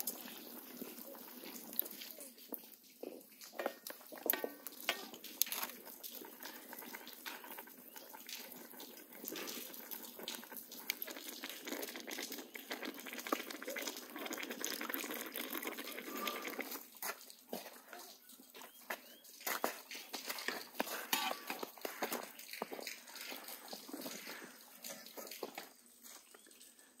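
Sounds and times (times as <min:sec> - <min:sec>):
rice bubbling in a pot: 0:00.0 - 0:27.0.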